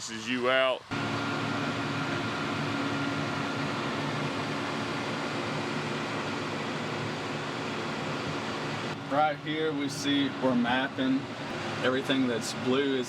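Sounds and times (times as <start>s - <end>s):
tractor engine running: 0.9s - 13.0s.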